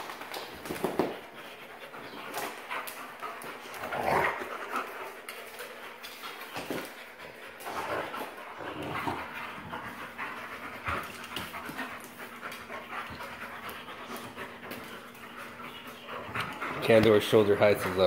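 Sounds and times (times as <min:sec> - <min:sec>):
dogs panting: 0:00.0 - 0:18.0
paws clicking on tile floor: 0:00.0 - 0:18.0.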